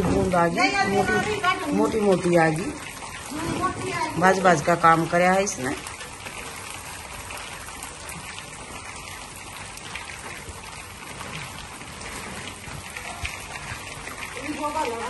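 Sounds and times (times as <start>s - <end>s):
rain on concrete: 0.0s - 15.0s.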